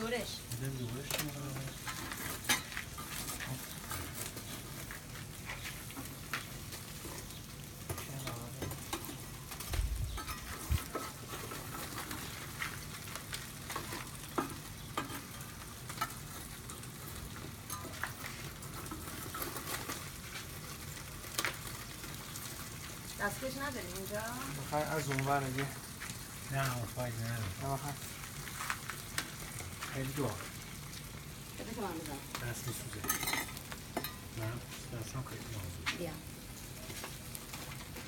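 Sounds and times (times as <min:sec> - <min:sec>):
fish sizzling on charcoal: 0:00.0 - 0:38.0.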